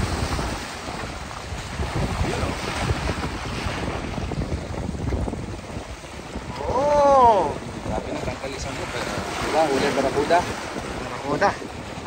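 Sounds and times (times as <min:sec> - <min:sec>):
sea waves breaking on rocks: 0:00.0 - 0:12.0
wind buffeting microphone: 0:00.0 - 0:12.0.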